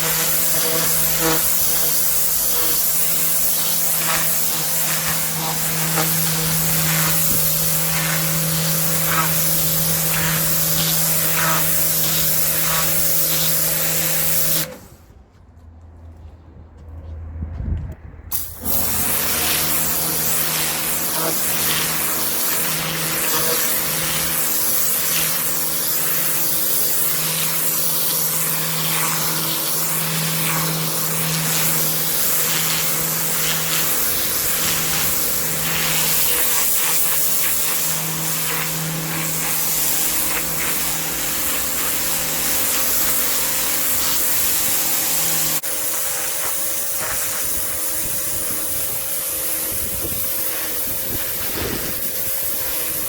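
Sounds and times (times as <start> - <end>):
water jet hissing on paving: 0.0 - 14.8, 18.3 - 53.0
pressure washer pump hum: 0.0 - 15.2, 18.3 - 53.0.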